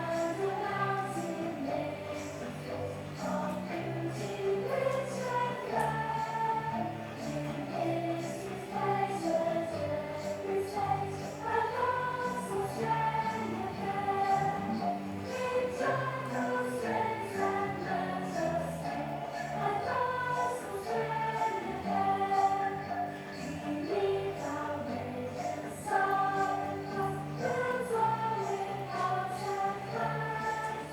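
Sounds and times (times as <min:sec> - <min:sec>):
choir singing: 0:00.0 - 0:30.9
musical accompaniment: 0:00.0 - 0:30.9.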